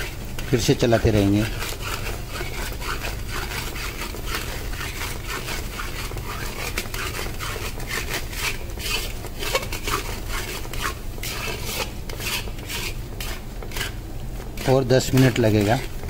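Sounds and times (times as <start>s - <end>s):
metal spatula scraping metal pan: 0.0s - 14.0s, 14.6s - 16.0s.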